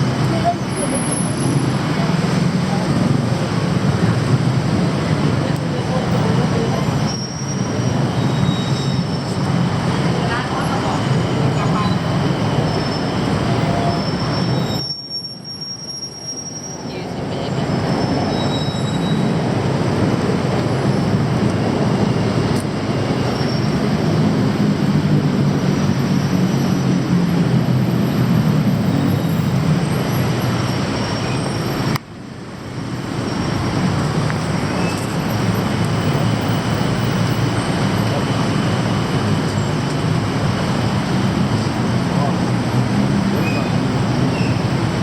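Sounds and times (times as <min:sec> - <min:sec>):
city traffic: 0:00.0 - 0:45.0
passing train rumble: 0:00.0 - 0:45.0.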